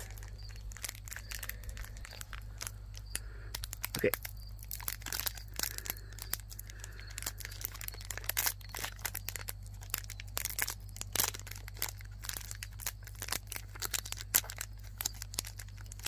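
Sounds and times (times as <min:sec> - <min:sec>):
crinkles and small rips: 0:00.0 - 0:16.0
foil wrapper tearing: 0:00.0 - 0:16.0.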